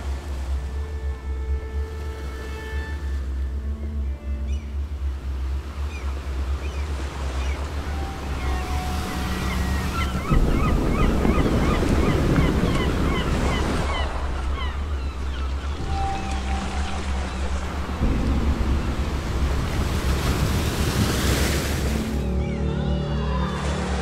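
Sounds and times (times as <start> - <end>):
sea waves: 0.0 - 24.0
wind: 0.0 - 24.0.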